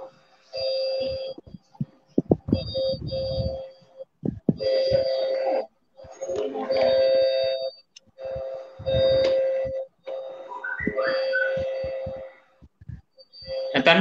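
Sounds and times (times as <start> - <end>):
earphone microphone handling noise: 1.0 - 7.0, 8.0 - 13.6
steady electronic tone: 2.2 - 14.0.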